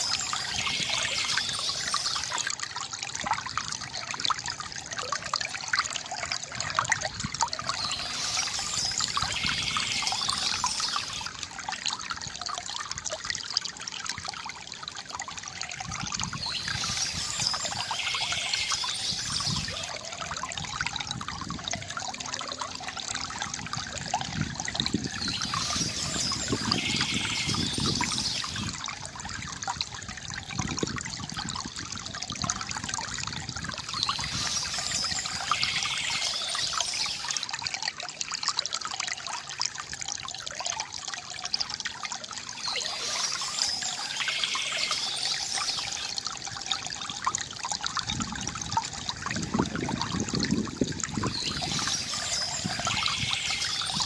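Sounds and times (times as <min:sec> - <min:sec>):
water trickling from bamboo fountain: 0:00.0 - 0:54.0.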